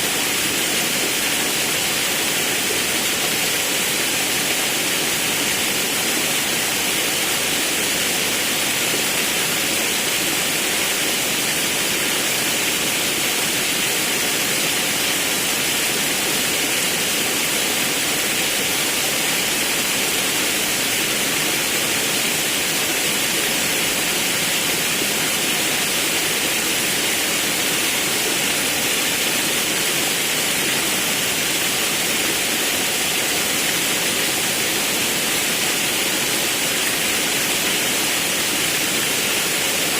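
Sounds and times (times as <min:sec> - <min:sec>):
river and waterfall rushing: 0:00.0 - 0:39.9.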